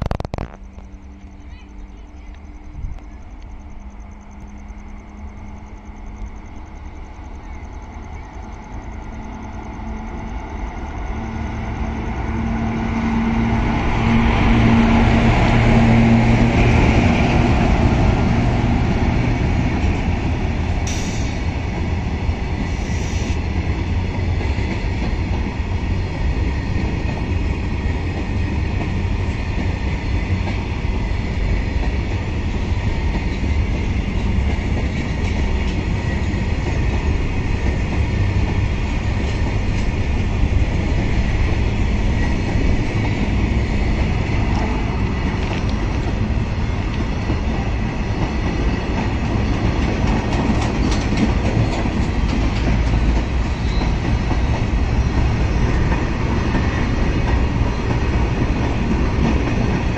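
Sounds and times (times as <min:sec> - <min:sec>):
electric locomotive humming: 0:00.0 - 0:59.9
train wheels rumbling on rails: 0:00.0 - 0:59.9.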